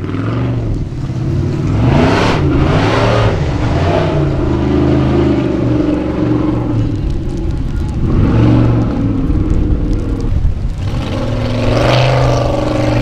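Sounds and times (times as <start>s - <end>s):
buggy engine revving hard: 0.0s - 7.1s, 8.0s - 13.0s.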